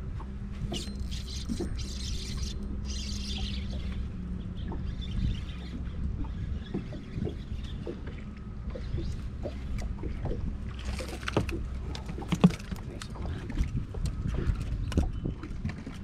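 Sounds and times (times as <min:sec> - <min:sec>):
steady low rumble: 0:00.0 - 0:16.0
water lapping against hull: 0:00.0 - 0:16.0.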